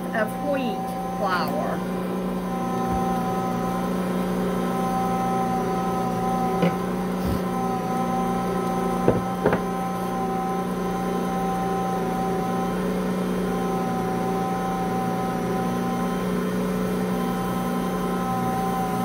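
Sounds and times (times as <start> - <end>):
stand mixer motor humming: 0.0 - 19.0.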